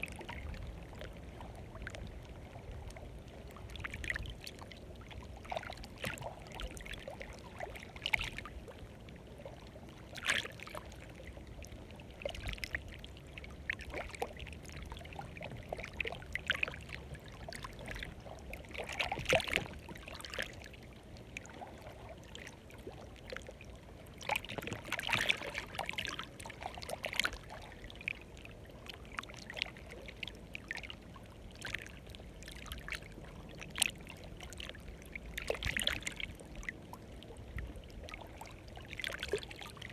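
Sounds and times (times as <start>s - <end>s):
water lapping at shore: 0.0s - 39.9s.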